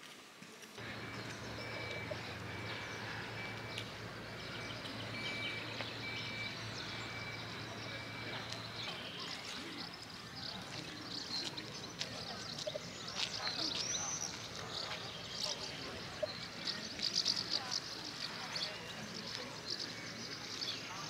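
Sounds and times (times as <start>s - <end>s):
faint voices: 0.4s - 21.0s
birds chirping: 0.8s - 21.0s.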